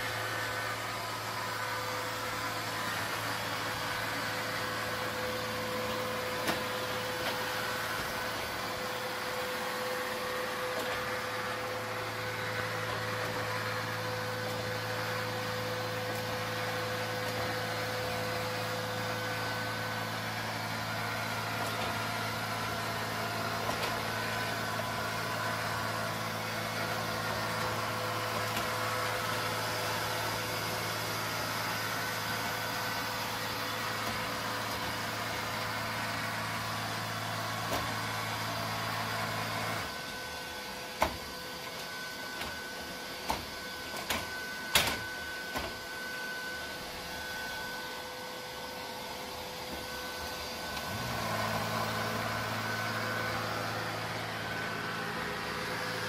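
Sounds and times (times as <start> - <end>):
robot vacuum running: 0.0 - 56.0.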